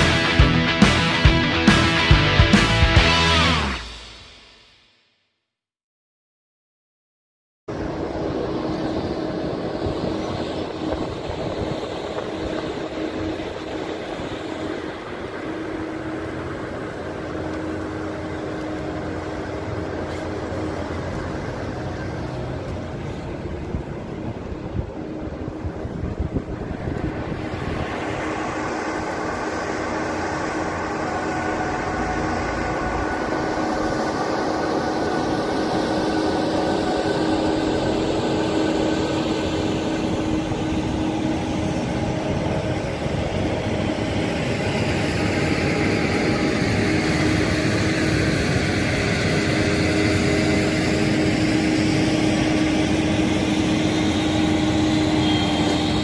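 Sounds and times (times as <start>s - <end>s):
freight train rolling past: 0.0s - 4.5s, 7.7s - 56.0s.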